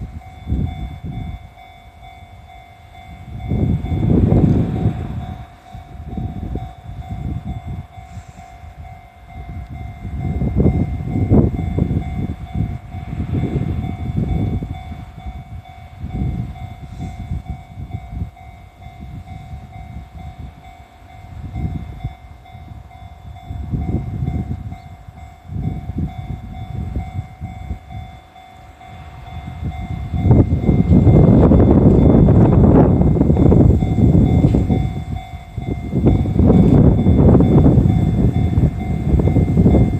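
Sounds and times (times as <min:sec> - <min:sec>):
level crossing alarm ringing: 0:00.0 - 0:39.9.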